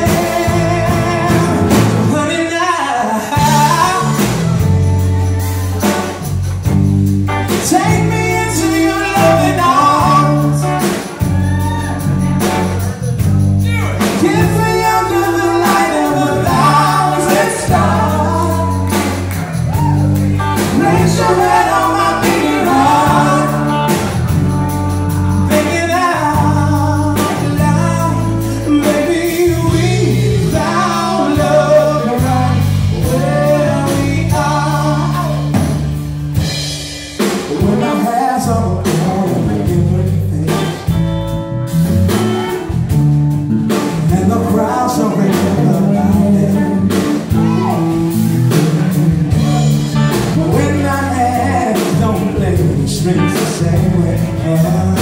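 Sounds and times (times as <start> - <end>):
man singing: 0.0 - 4.9, 7.4 - 36.4, 37.2 - 42.7, 43.7 - 55.0
live band playing: 0.0 - 55.0.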